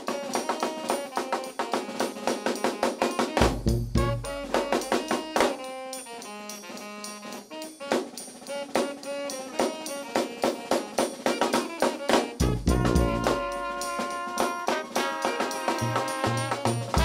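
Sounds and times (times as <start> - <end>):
saxophone: 0.0 - 17.0
steady drum beat: 0.0 - 17.0
trumpet: 0.0 - 17.0.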